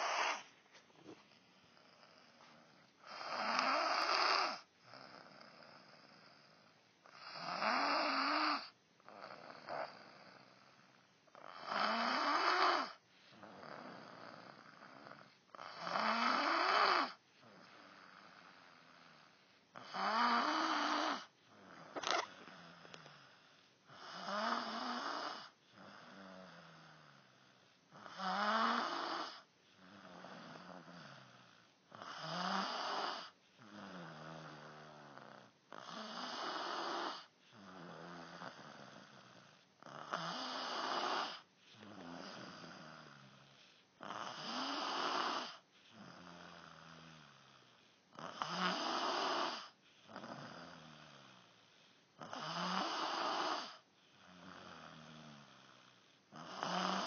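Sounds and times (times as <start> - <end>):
rhythmic snoring: 0.0 - 0.5, 1.3 - 57.0.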